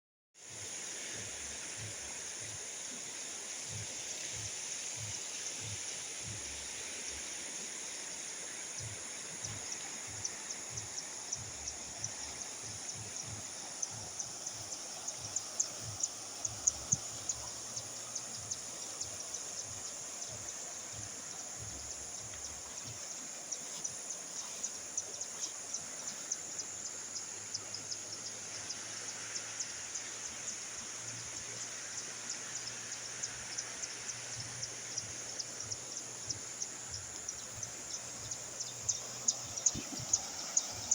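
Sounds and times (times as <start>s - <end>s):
insects chirping: 0.4s - 40.9s.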